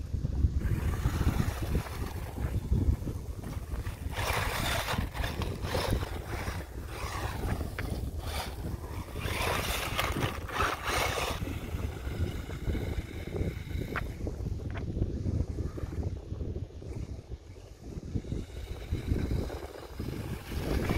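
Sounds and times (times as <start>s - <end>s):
wind rumbling on microphone: 0.0s - 20.9s
toy car electric motor: 0.4s - 14.6s, 15.2s - 16.2s, 16.9s - 20.9s.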